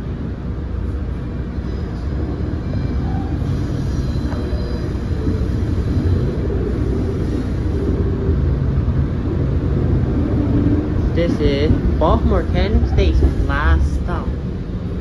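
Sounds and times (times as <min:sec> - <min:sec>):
train rumbling from inside: 0:00.0 - 0:15.0.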